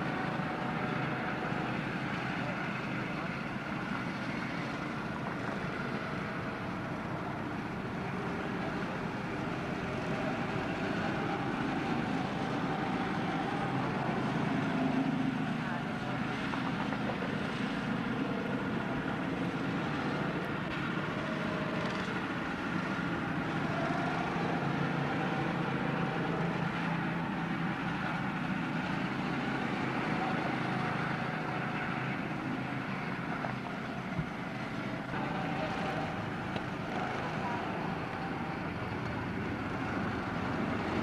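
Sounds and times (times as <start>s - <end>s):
go-kart engines droning: 0.0s - 41.0s.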